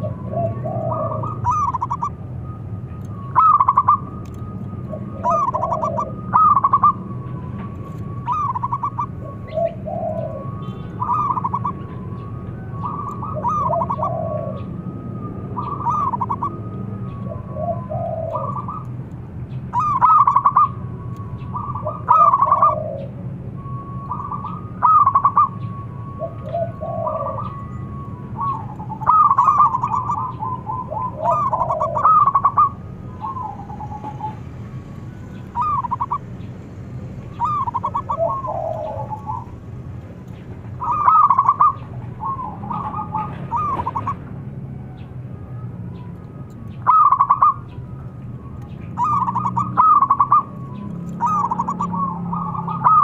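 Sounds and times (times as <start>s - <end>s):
dove cooing: 0.0s - 2.3s, 3.2s - 19.0s, 19.7s - 34.5s, 35.3s - 36.4s, 37.3s - 39.7s, 40.6s - 44.3s, 46.8s - 47.8s, 48.6s - 53.0s.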